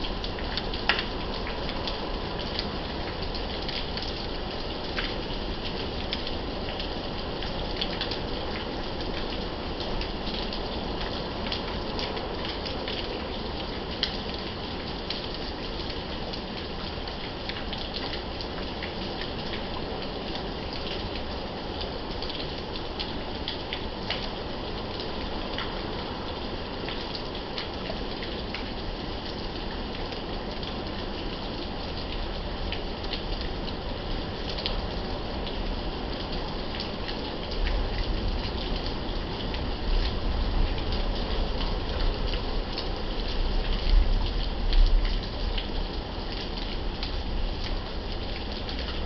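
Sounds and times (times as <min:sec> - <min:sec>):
raindrops clicking close by: 0:00.0 - 0:49.0
steady rain hiss: 0:00.0 - 0:49.0.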